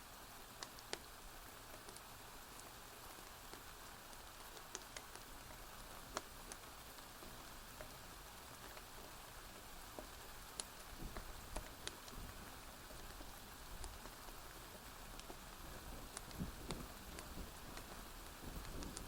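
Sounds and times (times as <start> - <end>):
rainfall hiss: 0.0 - 19.0
fire crackling and popping: 0.2 - 19.0.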